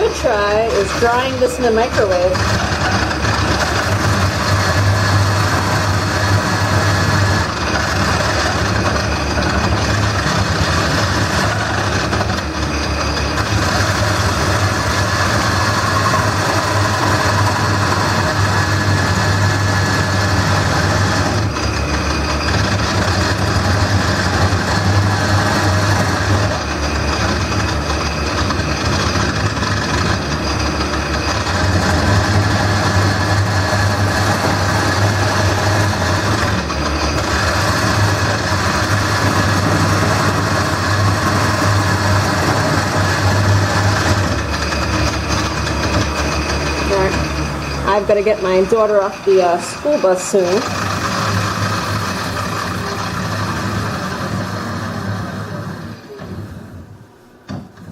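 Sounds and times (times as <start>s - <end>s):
gouge cutting spinning wood: 0.0s - 56.9s
wood lathe motor hum: 0.0s - 57.9s.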